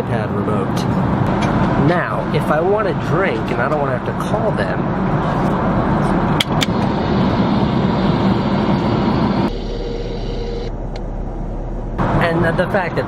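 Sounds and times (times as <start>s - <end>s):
airliner cabin noise: 0.8s - 13.0s.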